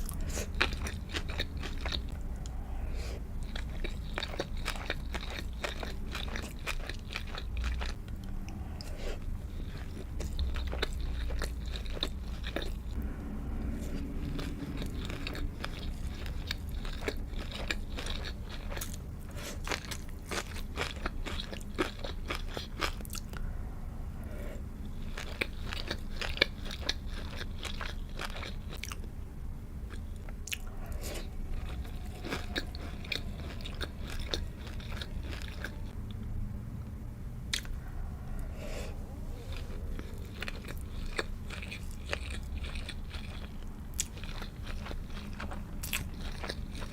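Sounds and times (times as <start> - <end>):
person chewing food: 0.0 - 13.0, 13.6 - 23.6, 24.2 - 29.1, 29.8 - 36.0, 37.5 - 46.9.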